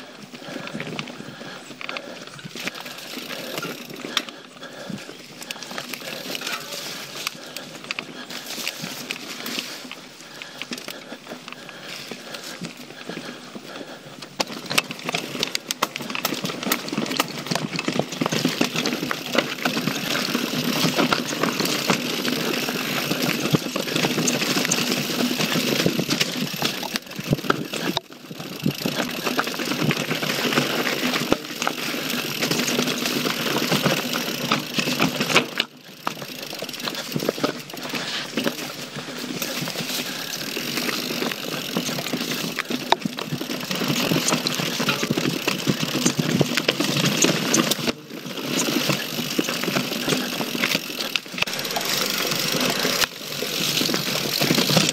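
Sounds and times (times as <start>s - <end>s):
bike rattles and clicks: 0.0s - 54.9s.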